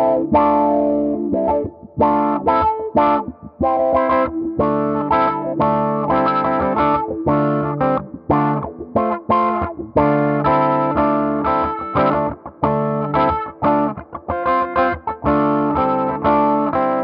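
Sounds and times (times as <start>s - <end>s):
electric guitar through envelope filter: 0.0s - 17.0s.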